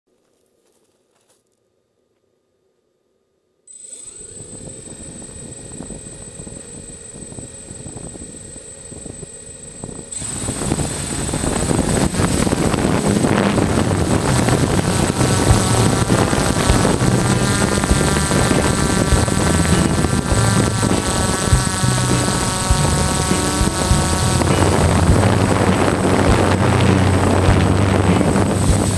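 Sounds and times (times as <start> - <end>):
drone motors and propellers: 3.7 - 28.9.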